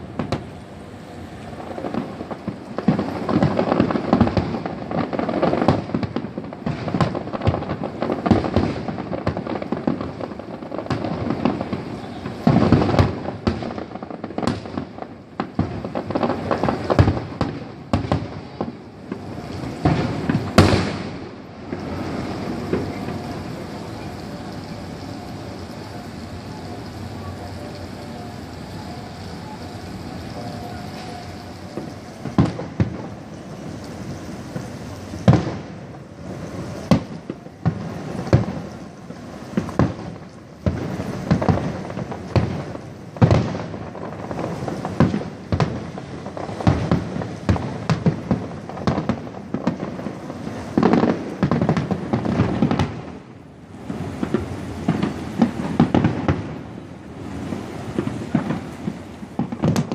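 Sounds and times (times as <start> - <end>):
fireworks booming and crackling: 0.0 - 59.9
steady background noise: 0.0 - 59.9.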